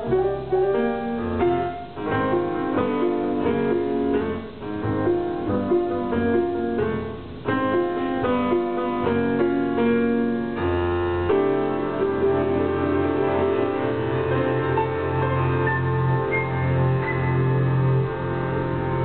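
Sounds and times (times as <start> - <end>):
double bass line: 0.0 - 19.0
piano chords: 0.0 - 19.0.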